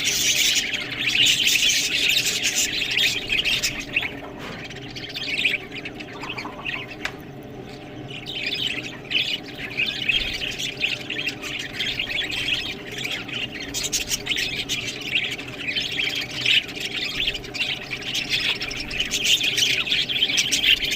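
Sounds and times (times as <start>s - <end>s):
budgerigars chattering and chirping: 0.0s - 20.9s
steady low hum: 0.0s - 20.9s.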